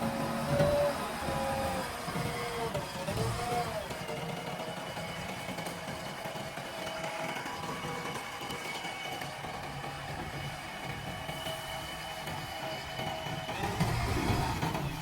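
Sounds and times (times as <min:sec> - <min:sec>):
backhoe loader engine running: 0:00.0 - 0:15.0.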